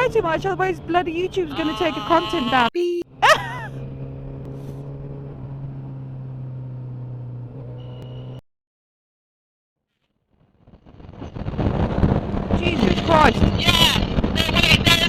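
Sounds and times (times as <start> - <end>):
road noise: 0.0 - 8.4, 10.4 - 15.0.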